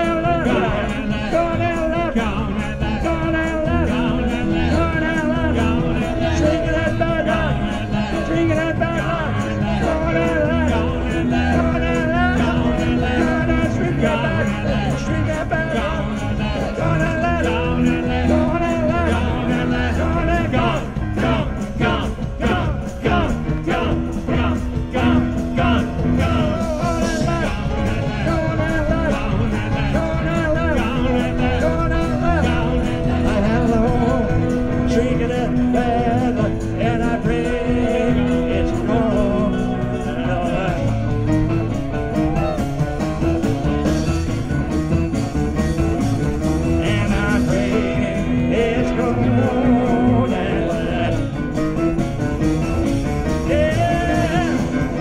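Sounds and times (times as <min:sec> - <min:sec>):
rock band jamming: 0:00.0 - 0:55.0.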